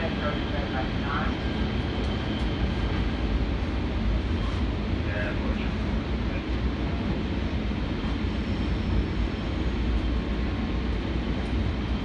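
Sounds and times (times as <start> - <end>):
light rail vehicle running: 0.0 - 12.0.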